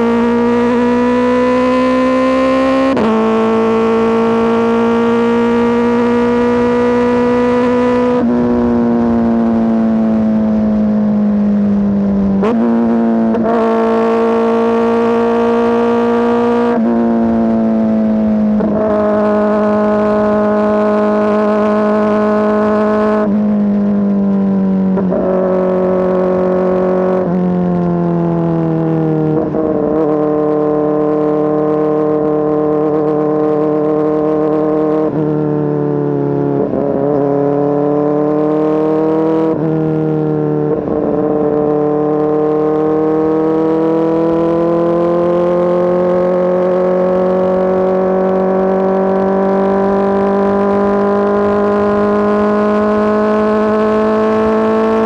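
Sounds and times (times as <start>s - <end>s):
motorcycle engine running loud: 0.0s - 55.0s.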